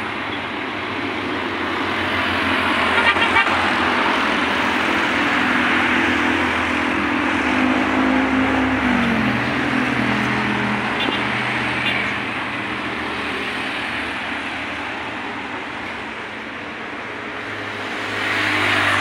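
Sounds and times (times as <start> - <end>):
road noise: 0.0 - 19.0
vehicle engine: 0.0 - 19.0.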